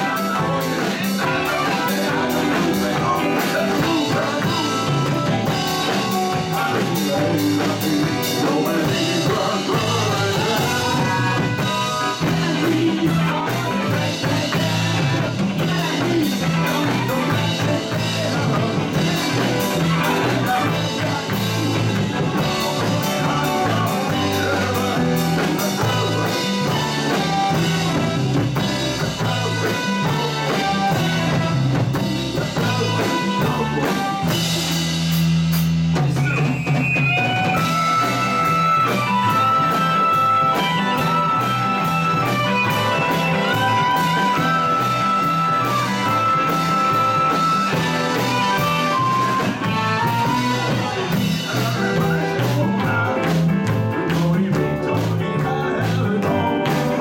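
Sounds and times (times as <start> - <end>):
man singing into microphone: 0.0 - 34.5, 36.0 - 57.0
rock band playing: 0.0 - 57.0.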